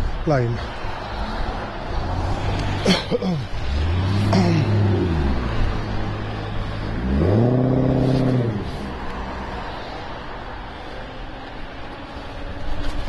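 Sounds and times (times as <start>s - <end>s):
passing car engine: 0.6s - 13.0s.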